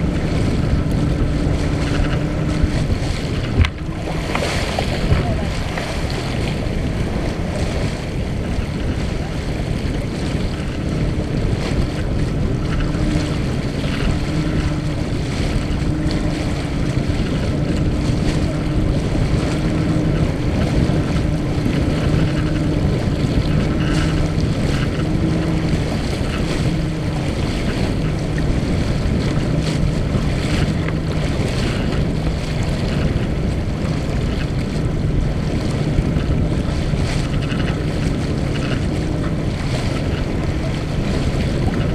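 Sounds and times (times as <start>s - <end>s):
water rushing along hull: 0.0s - 41.9s
wind buffeting microphone: 0.0s - 41.9s.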